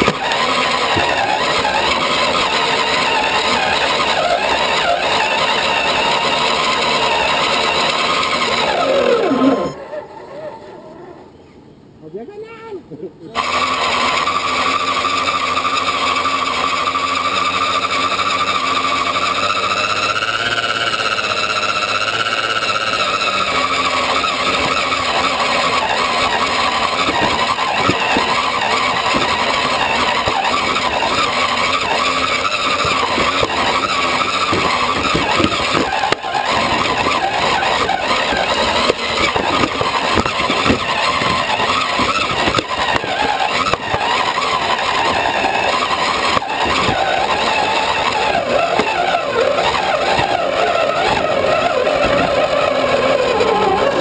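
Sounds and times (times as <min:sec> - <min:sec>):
toy truck rattling over rocks: 0:00.0 - 0:09.8, 0:13.4 - 0:54.0
electric motor and gears whining: 0:00.0 - 0:11.4, 0:13.2 - 0:54.0.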